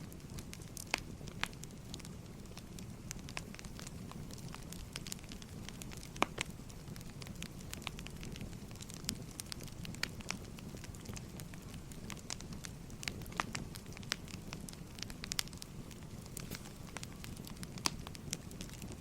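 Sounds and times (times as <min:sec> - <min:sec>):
burning logs popping: 0:00.0 - 0:19.0
wood fire crackling: 0:00.0 - 0:19.0.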